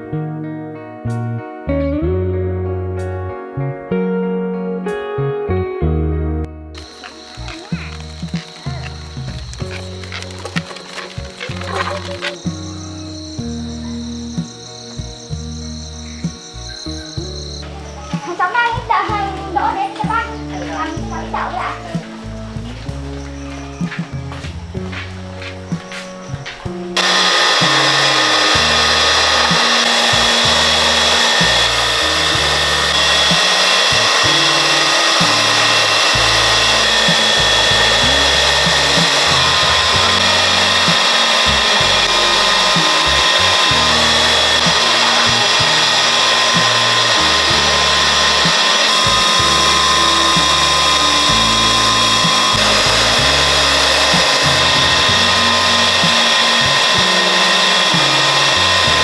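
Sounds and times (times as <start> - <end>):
electric motor whining: 6.8 - 59.0.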